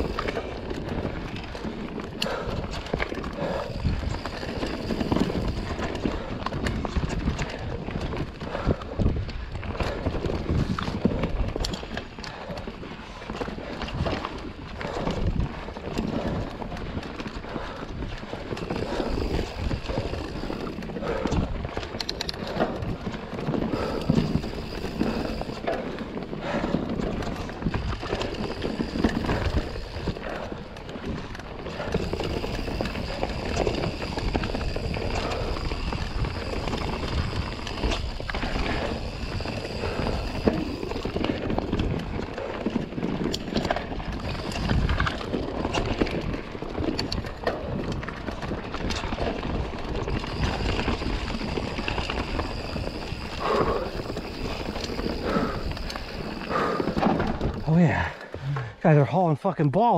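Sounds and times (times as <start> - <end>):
bike rattling and knocking: 0.0 - 59.9
tyres rushing on dirt: 0.0 - 59.9.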